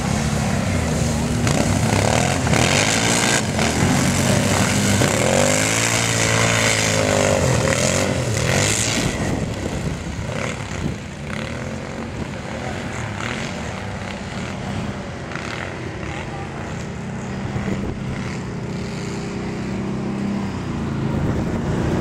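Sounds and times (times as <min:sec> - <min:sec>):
atv engines revving hard: 0:00.0 - 0:22.0.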